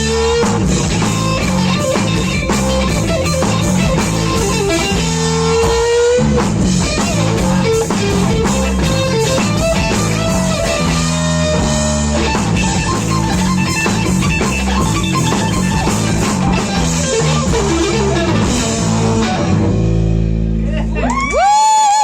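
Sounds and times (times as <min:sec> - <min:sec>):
electric guitar riff: 0:00.0 - 0:21.1
drum kit: 0:00.0 - 0:21.2
bass guitar: 0:00.0 - 0:22.0.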